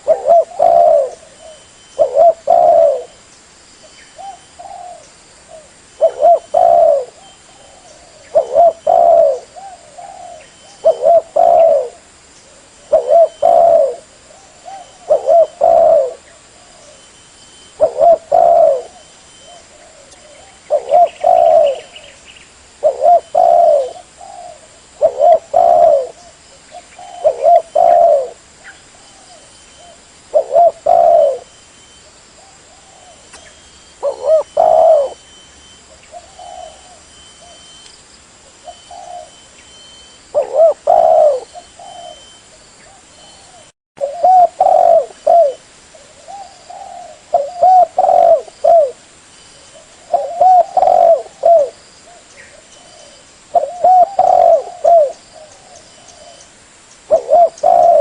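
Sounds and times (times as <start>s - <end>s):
dove cooing: 0.0s - 3.2s, 4.2s - 37.8s, 38.4s - 49.0s, 49.6s - 56.5s, 57.1s - 58.0s.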